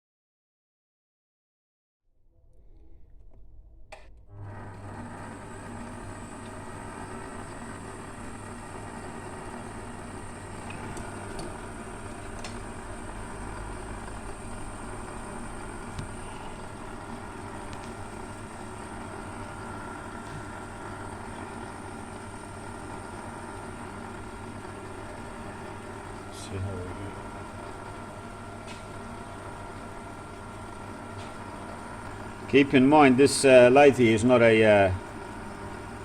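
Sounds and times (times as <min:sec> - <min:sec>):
metal lathe running: 0:04.4 - 0:36.0.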